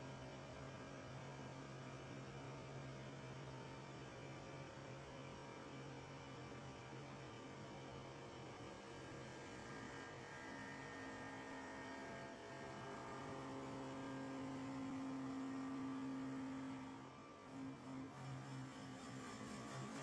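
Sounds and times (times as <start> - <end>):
lathe electric hum: 0.5 - 20.0.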